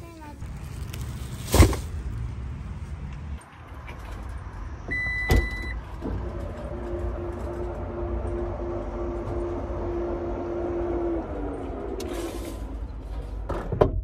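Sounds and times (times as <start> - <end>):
low parking lot rumble: 0.0 - 14.0.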